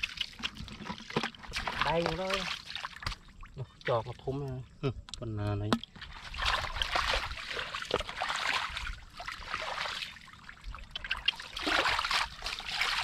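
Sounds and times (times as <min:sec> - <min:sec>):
mud and water sloshing: 0:00.0 - 0:04.6, 0:05.3 - 0:13.0.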